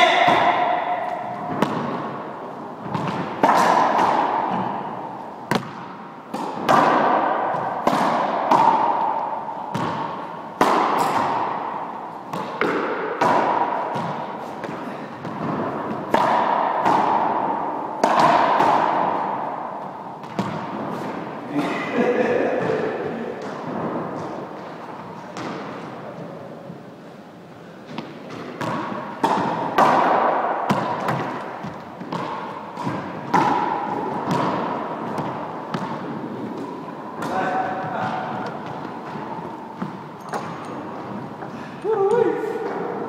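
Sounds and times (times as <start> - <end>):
squash ball cracks with echo: 0.0 - 25.9, 27.9 - 43.0.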